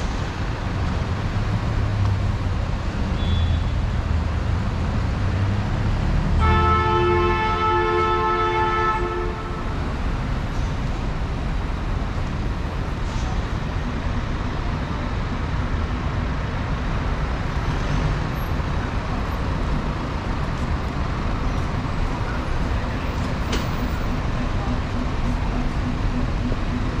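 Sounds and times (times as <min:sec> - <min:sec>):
passing vehicles: 0:00.0 - 0:27.0.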